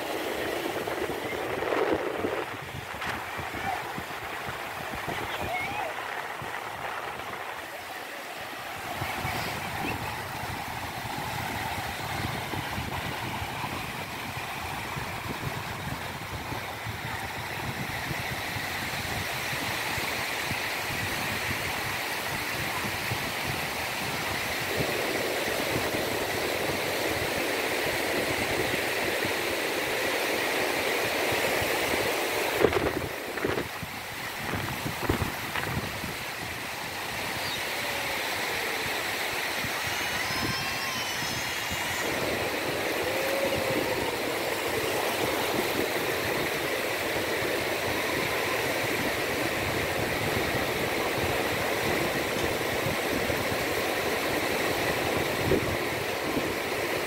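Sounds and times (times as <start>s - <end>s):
small waves breaking on sandy beach: 0.0s - 57.0s.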